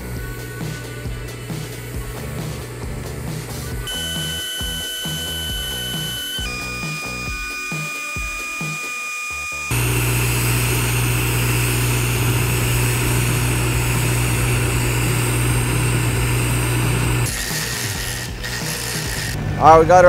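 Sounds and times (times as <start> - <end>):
welding arc buzzing and hissing: 0.0 - 19.4.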